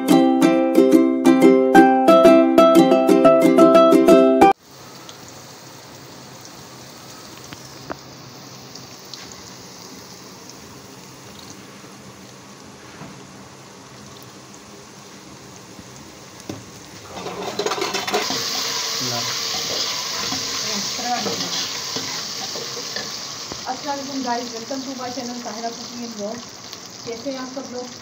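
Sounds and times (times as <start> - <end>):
food sizzling in a pot: 4.5 - 28.0
low steady hiss: 4.6 - 28.0.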